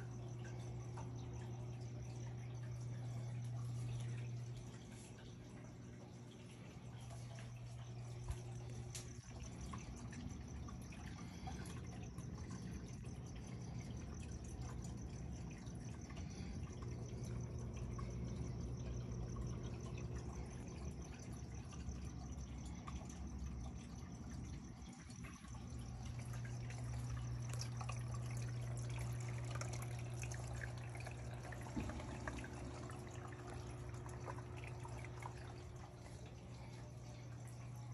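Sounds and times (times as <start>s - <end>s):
aquarium pump hum: 0.0s - 37.9s
water trickling and dripping: 0.0s - 37.9s.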